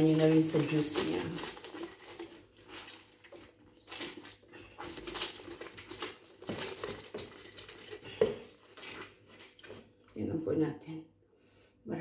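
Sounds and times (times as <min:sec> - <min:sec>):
wet squishing of fruit: 0:00.0 - 0:10.2.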